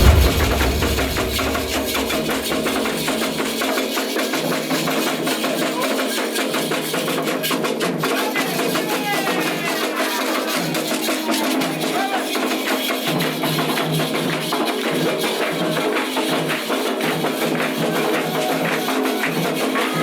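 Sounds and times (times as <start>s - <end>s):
drums and percussion rhythm: 0.0s - 20.0s.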